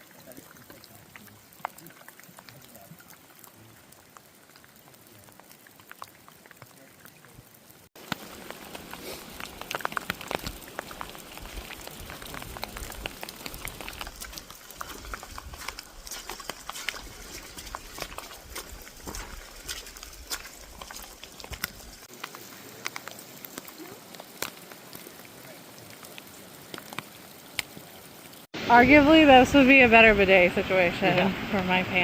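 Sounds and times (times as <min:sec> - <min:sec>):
drips and splashes: 0:00.0 - 0:28.5
stream water running: 0:00.0 - 0:32.0.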